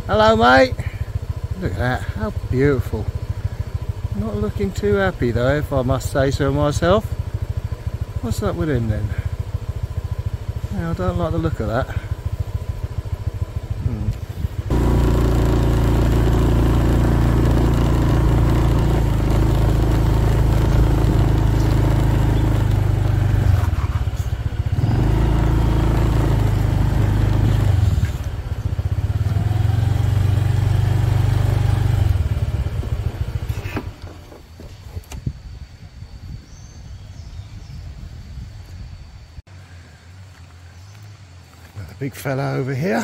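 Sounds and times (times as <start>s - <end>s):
motorbike engine: 0.0s - 35.4s.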